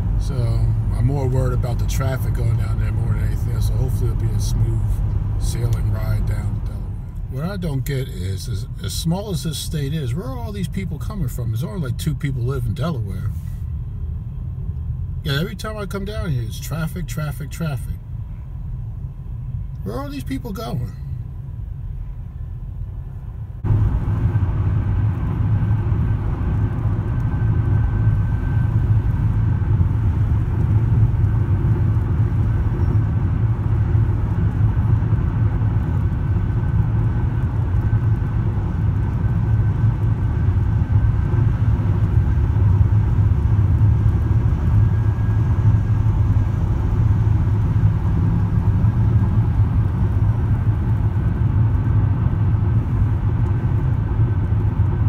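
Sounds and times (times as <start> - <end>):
road and engine rumble inside car: 0.0 - 55.0.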